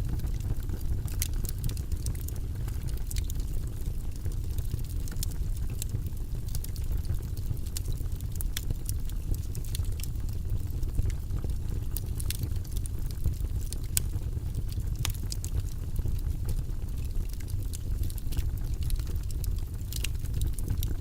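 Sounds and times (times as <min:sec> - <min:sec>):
fire crackling and rumbling: 0:00.0 - 0:21.0.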